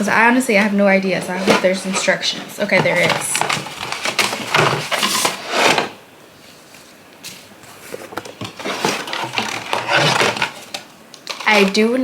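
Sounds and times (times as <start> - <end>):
packaging rustling: 0.2 - 12.0.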